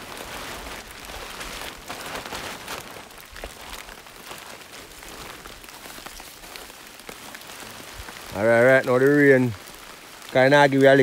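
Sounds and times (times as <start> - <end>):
plastic tarp crinkling: 0.0 - 11.0
rain falling on foliage: 0.0 - 11.0.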